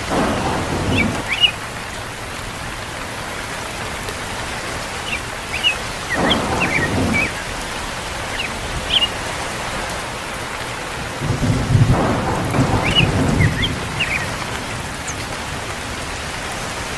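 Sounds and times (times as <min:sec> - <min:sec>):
steady rain: 0:00.0 - 0:16.9
thunder rumble: 0:00.0 - 0:16.9.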